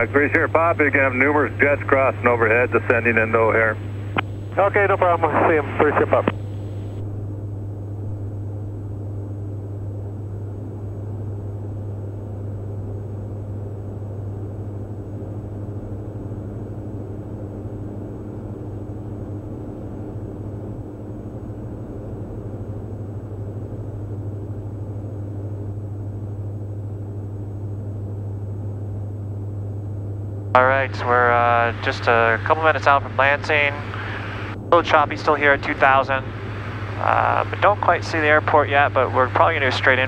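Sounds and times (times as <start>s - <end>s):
aircraft engines droning in cockpit: 0.0s - 40.0s.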